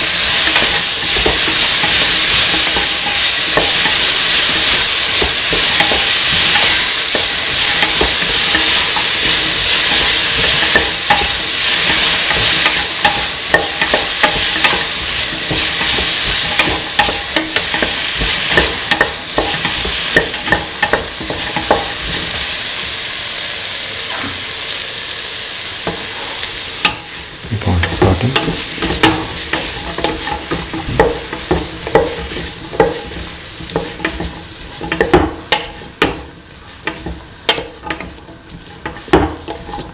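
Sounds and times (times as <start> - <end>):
vegetables sizzling in hot oil: 0.0 - 39.9.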